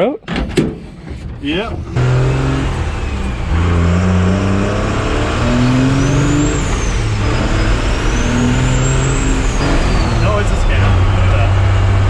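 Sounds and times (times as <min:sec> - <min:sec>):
car engine accelerating hard: 0:01.4 - 0:12.0.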